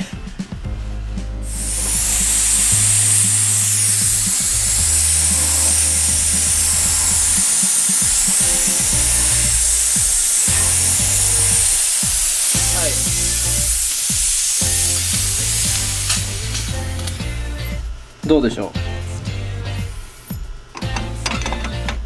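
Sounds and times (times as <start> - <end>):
background music with bass: 0.0 - 22.0
steam cleaner hissing: 1.4 - 22.0.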